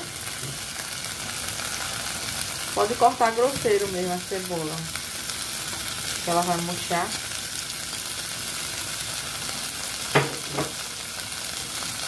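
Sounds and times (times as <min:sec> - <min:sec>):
meat and onion sizzling in a pot: 0:00.0 - 0:12.0.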